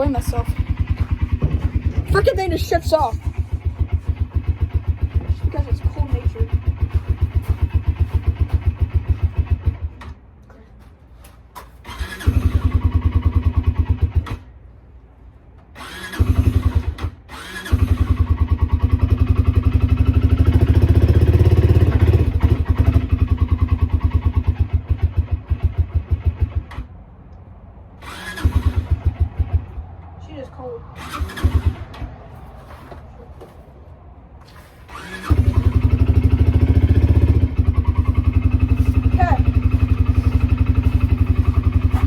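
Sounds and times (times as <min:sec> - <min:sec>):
engine running rough on choke: 0:00.0 - 0:10.0, 0:11.9 - 0:14.5, 0:15.8 - 0:26.9, 0:28.0 - 0:29.8, 0:31.0 - 0:32.1, 0:34.9 - 0:42.0.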